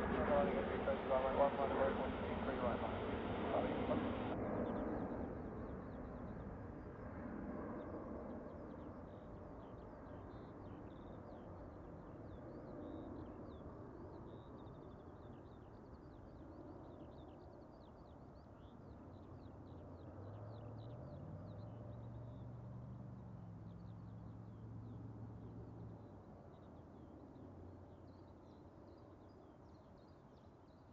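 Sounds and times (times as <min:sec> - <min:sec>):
distant jet airliner rumble: 0:00.0 - 0:30.9.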